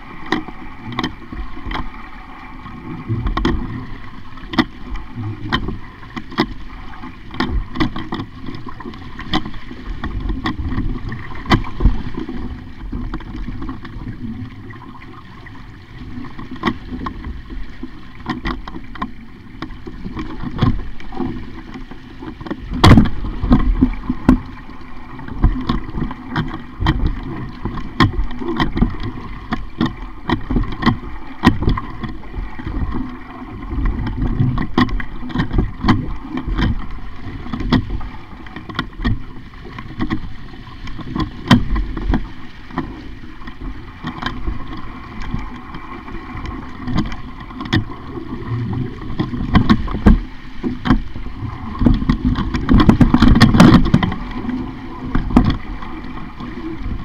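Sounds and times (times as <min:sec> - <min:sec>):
water slapping against a hull: 0:00.0 - 0:57.0.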